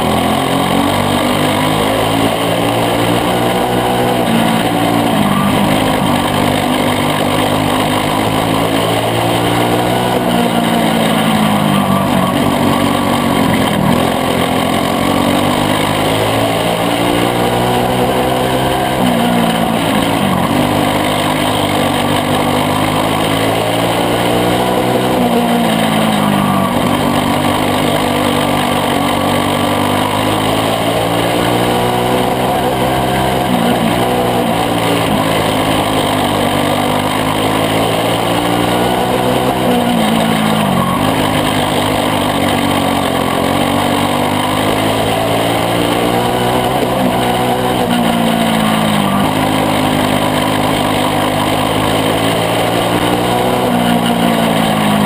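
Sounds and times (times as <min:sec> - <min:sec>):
kart engine accelerating: 0:00.0 - 0:55.0.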